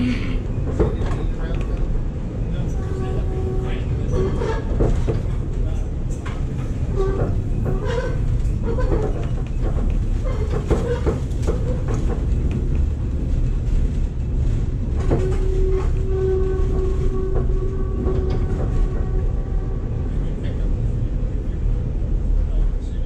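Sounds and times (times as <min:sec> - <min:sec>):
streetcar rumbling on rails: 0:00.0 - 0:23.0.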